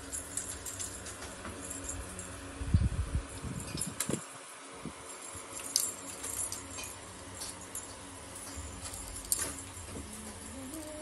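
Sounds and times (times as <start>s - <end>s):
cat toy clicks and jingles: 0.0s - 4.4s, 5.0s - 11.0s.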